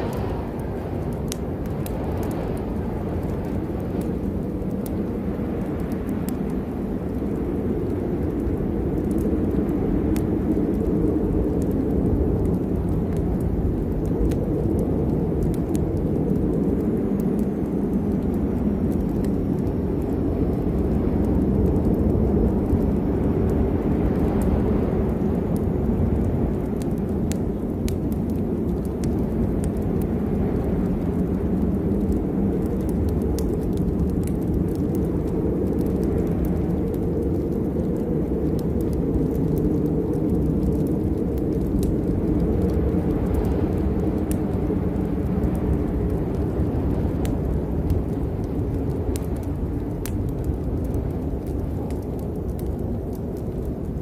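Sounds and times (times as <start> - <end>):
low storm rumble: 0.0 - 54.0
sharp crackles: 0.0 - 54.0.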